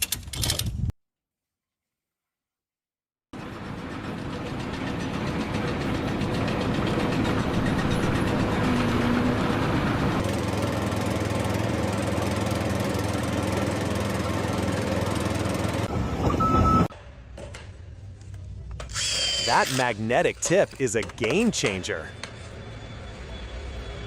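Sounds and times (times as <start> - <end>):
engine running: 3.4 - 24.0.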